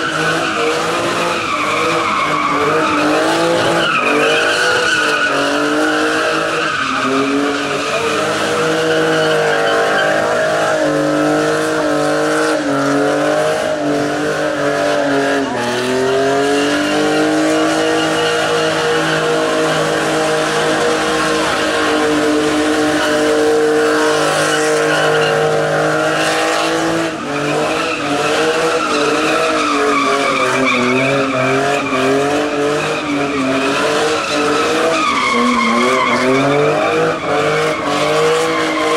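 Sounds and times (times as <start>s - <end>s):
tyres squealing: 0.0s - 13.0s, 13.8s - 38.9s
car engine revving high: 0.0s - 38.9s.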